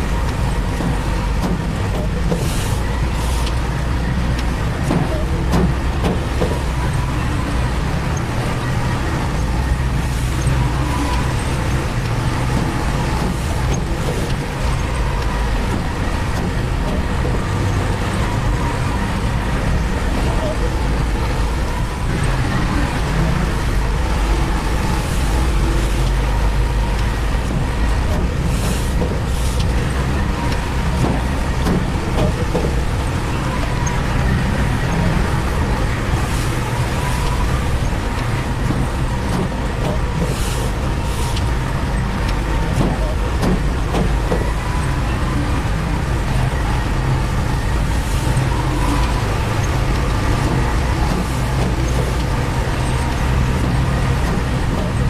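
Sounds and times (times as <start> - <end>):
heavy machinery engine rumbling: 0.0 - 55.0.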